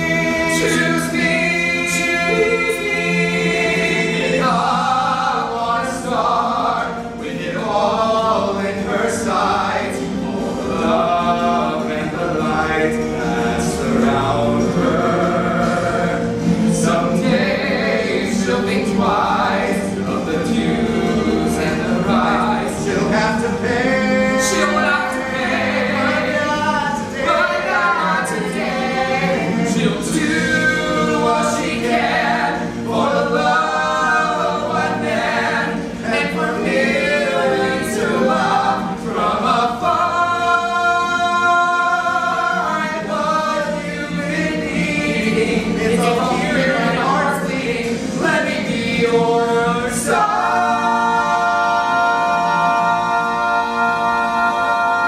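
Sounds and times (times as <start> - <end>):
men singing in harmony: 0.0 - 55.0.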